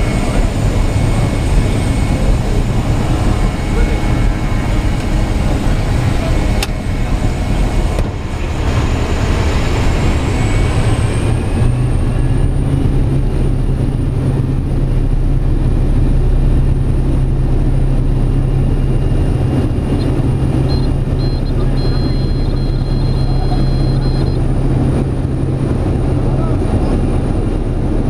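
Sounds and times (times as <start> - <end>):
propeller drone: 0.0 - 28.0
turbine whine: 0.0 - 28.0.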